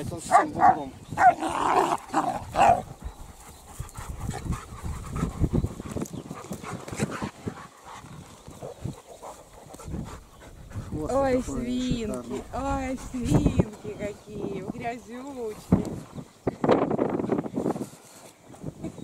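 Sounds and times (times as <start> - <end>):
dogs scuffling in dirt: 0.0 - 19.0.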